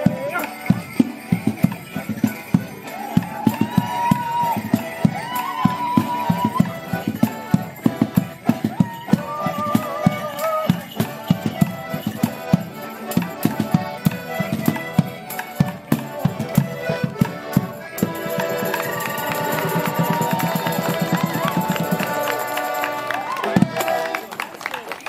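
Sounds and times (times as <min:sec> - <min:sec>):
melodeons playing folk dance tune: 0:00.0 - 0:24.7.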